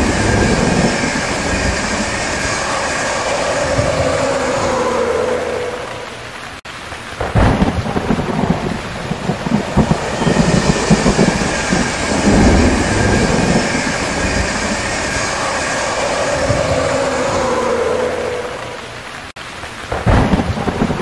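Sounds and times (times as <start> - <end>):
electric train passing: 0.0 - 6.6, 7.9 - 19.3
thunderclap rolling: 0.0 - 19.3, 19.9 - 21.0
heavy rain: 0.0 - 21.0.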